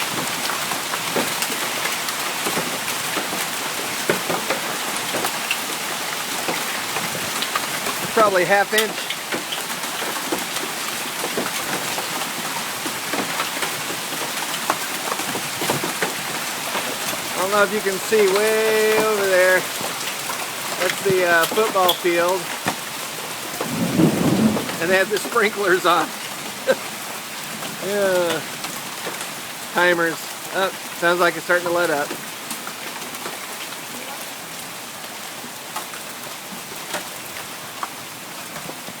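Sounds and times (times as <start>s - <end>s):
hailstones ticking: 0.0s - 39.0s
heavy rain pouring: 0.0s - 39.0s.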